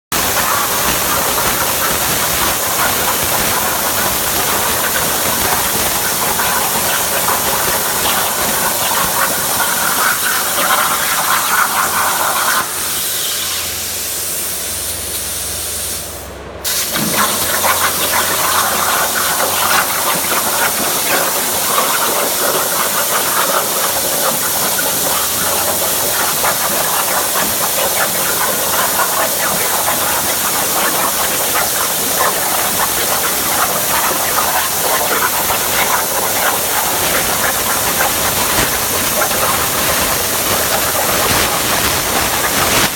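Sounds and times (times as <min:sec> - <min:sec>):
plasma torch hissing and crackling: 0:00.2 - 0:42.9.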